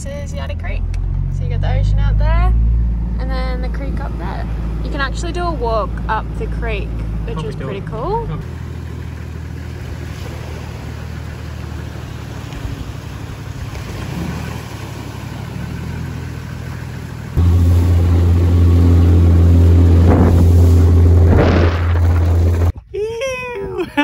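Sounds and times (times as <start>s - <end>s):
car engine running at low revs: 0.0s - 22.8s
outboard motor drone: 0.5s - 22.8s.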